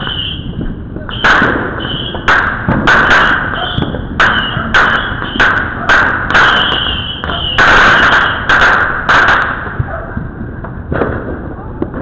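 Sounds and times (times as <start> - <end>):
fireworks bangs: 0.0 - 12.0
fireworks sizzling: 0.0 - 12.0.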